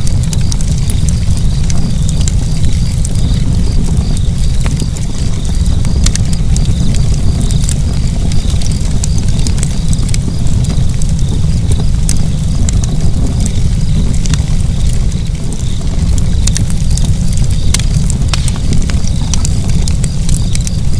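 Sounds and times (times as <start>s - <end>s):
fire crackling and popping: 0.0s - 20.9s
fire flames rumbling: 0.0s - 20.9s.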